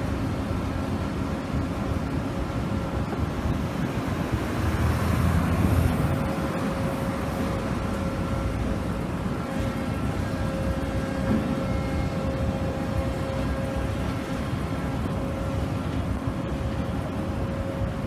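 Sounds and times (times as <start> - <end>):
machinery drone with whine: 0.0 - 18.0.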